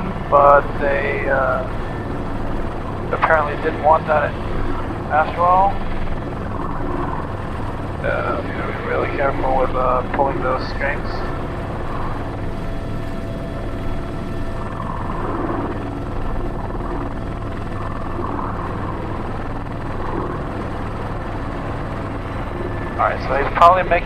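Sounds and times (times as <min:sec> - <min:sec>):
helicopter turbine and rotor: 0:00.0 - 0:24.0.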